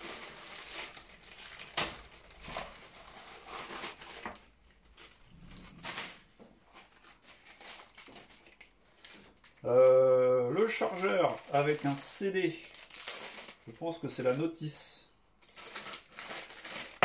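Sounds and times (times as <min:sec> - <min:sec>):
plastic bags crinkling: 0:00.0 - 0:14.7, 0:15.4 - 0:17.0.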